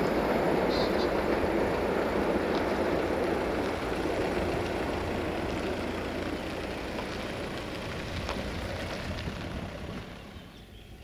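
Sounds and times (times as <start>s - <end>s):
diesel train rumbling: 0.0s - 11.0s.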